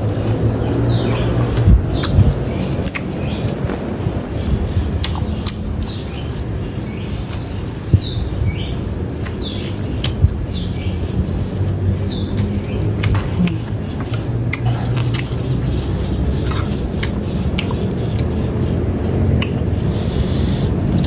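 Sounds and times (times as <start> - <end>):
chewing with wet mouth noises: 0.2 - 8.1, 9.1 - 18.6, 19.3 - 21.0.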